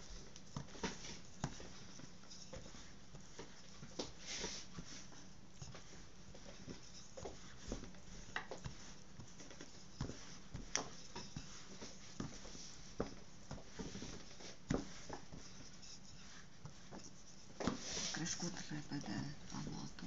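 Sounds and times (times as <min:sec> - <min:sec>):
low steady hum: 0:00.0 - 0:20.0
rolling pin rubbing dough: 0:00.0 - 0:20.0.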